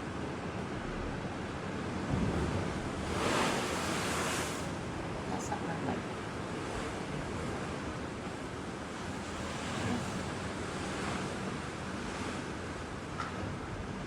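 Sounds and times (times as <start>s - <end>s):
ocean surf washing ashore: 0.0s - 14.0s
wind: 0.0s - 14.0s.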